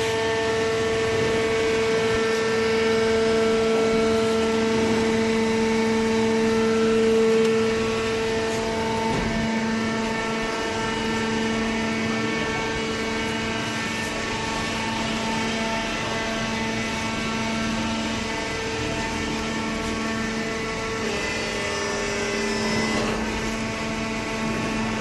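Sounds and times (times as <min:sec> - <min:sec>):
hydraulic pump whining hum: 0:00.0 - 0:25.0.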